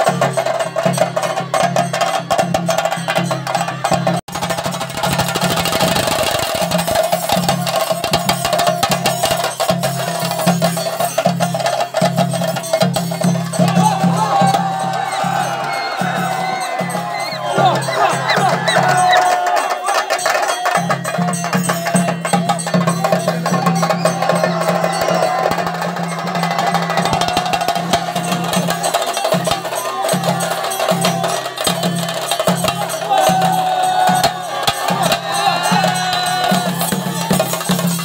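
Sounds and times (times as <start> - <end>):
crowd voices and shouts: 0.0 - 38.0
drums beaten with sticks: 0.0 - 38.0.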